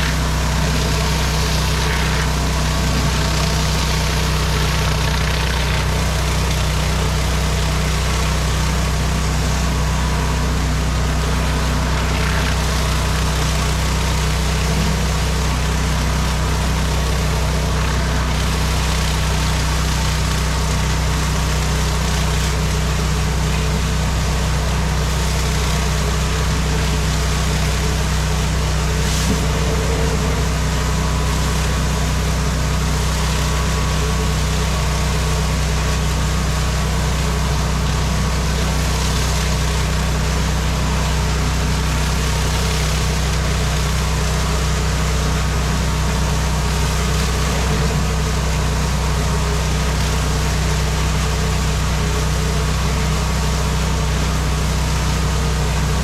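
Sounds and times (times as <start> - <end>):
gas engine running: 0.0 - 56.0.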